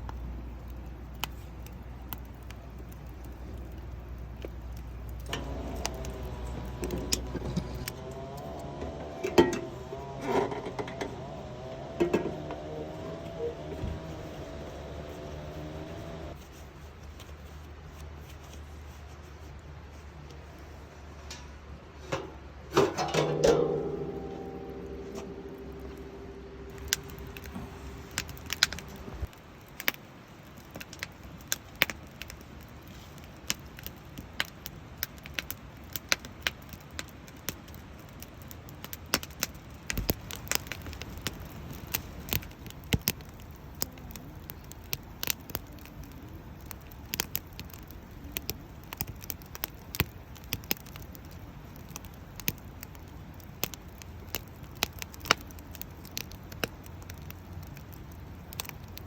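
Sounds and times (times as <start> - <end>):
campfire crackling and popping: 0.0 - 16.5, 23.6 - 59.0.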